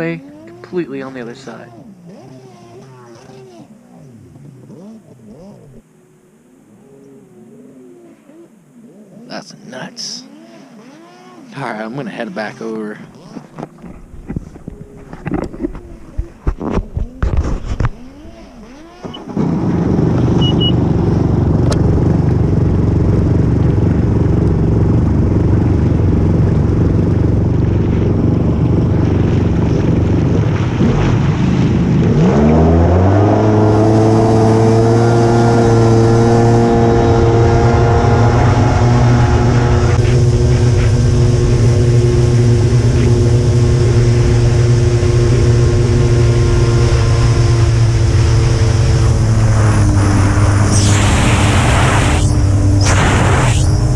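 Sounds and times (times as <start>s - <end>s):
jet ski engine running: 0.0s - 53.9s.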